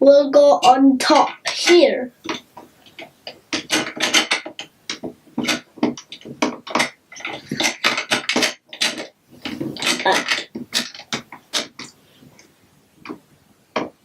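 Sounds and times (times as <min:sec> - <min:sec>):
plastic toy bricks clattering: 0:00.6 - 0:11.9.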